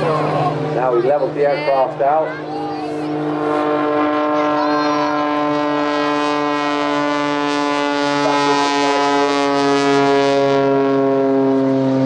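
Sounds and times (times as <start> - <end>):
biplane engine droning: 0.0 - 12.0.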